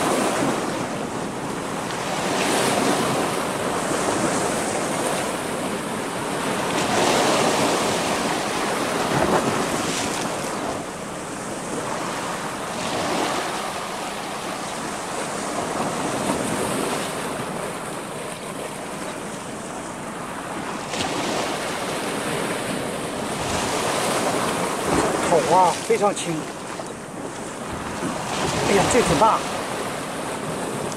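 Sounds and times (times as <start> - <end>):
waves breaking on rocks: 0.0 - 30.9.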